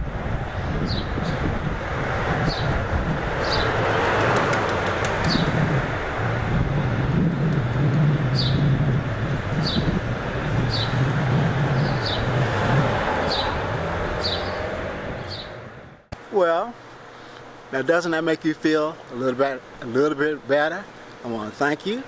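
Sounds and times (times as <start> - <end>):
street traffic noise: 0.0 - 17.8.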